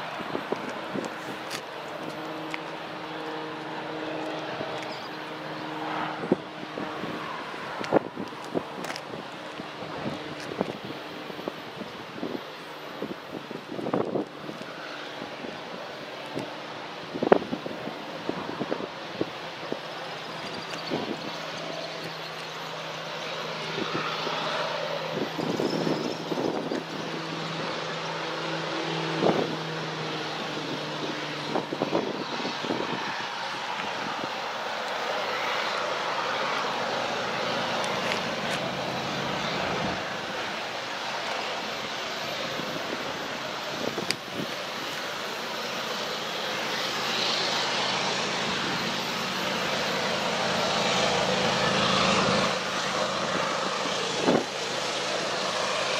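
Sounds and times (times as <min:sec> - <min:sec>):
wind noise on microphone: 0:00.0 - 0:22.2, 0:23.4 - 0:34.6, 0:36.4 - 0:45.6, 0:47.1 - 0:55.9
diesel locomotives running: 0:00.0 - 0:55.9.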